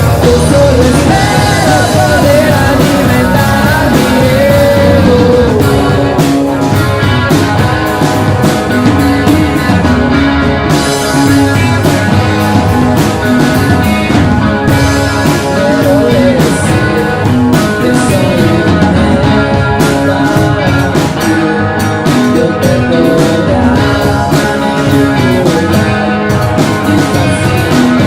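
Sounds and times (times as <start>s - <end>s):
bass guitar: 0.0s - 28.0s
drum and cymbal strikes: 0.0s - 28.0s
electric guitars: 0.0s - 28.0s.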